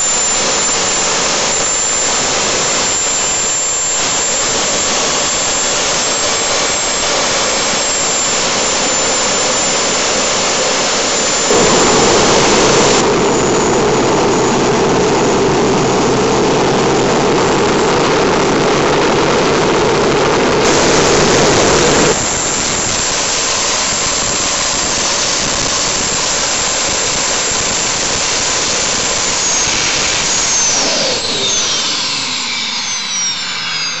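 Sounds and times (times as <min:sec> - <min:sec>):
turbojet engine rushing whine: 0:00.0 - 0:34.0.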